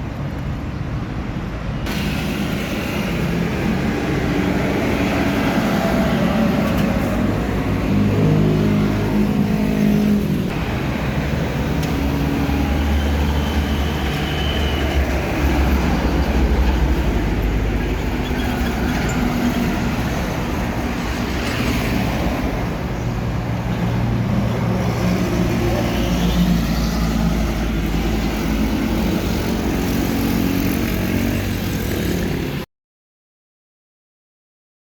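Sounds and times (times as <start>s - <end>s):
road traffic passing: 0.0s - 32.7s.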